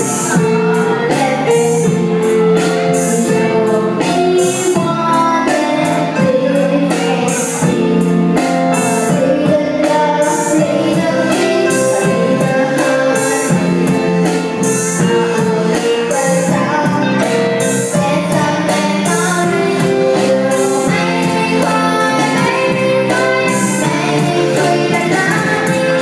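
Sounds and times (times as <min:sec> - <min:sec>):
girl singing through microphone: 0:00.0 - 0:26.0
live band with guitar and keyboard: 0:00.0 - 0:26.0.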